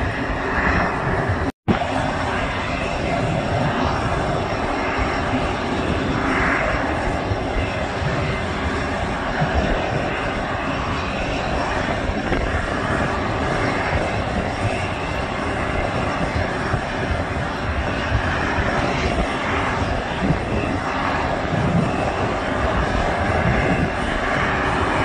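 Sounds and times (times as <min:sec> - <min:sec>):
jet turbine rushing: 0:00.0 - 0:25.0.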